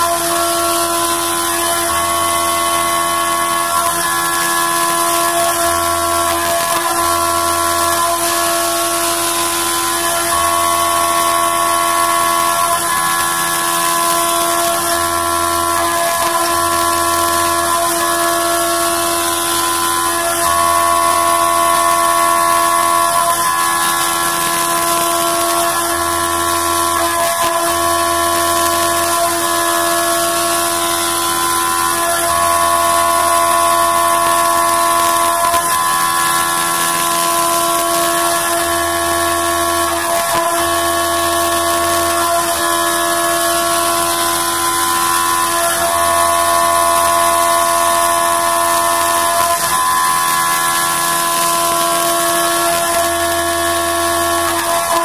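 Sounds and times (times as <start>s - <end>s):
milling machine cutting metal: 0.0s - 55.0s.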